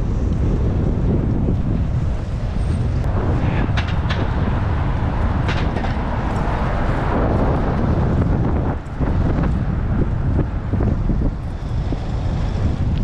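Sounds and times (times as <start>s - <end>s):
road noise: 0.0s - 13.0s
wind rushing over microphone: 0.0s - 13.0s.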